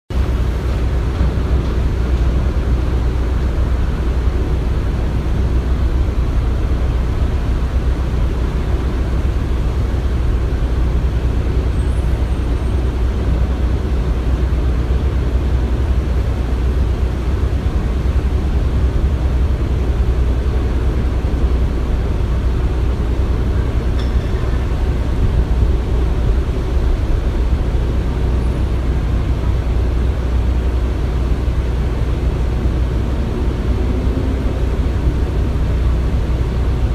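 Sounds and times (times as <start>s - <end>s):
machinery rumbling: 0.1s - 36.9s.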